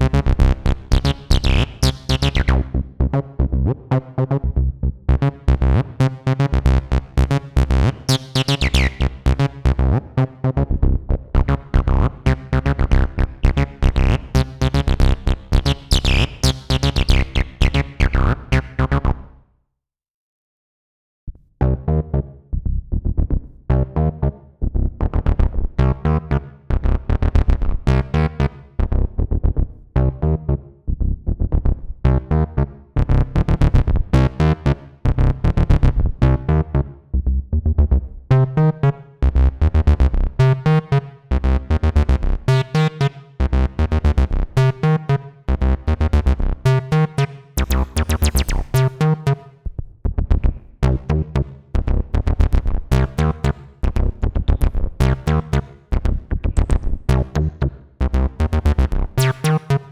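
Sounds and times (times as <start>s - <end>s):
acid bassline synthesizer: 0.0s - 19.3s, 21.6s - 59.9s.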